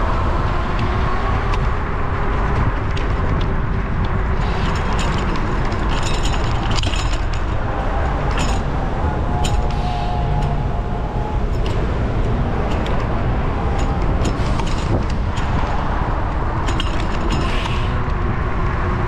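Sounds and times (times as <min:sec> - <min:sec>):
cars passing: 0:00.0 - 0:19.0
wind and road noise: 0:00.0 - 0:19.0
sharp clicks and rattles: 0:00.4 - 0:10.7, 0:11.4 - 0:18.8.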